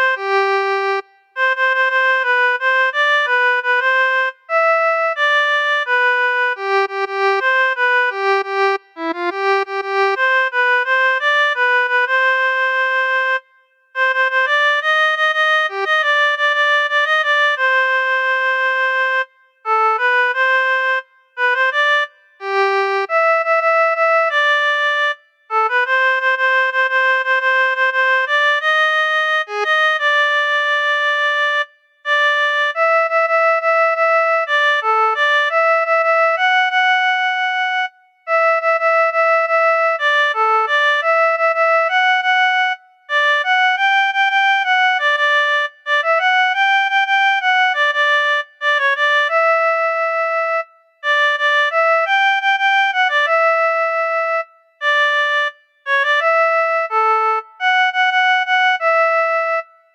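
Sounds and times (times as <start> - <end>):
software keyboard melody: 0.0 - 59.9.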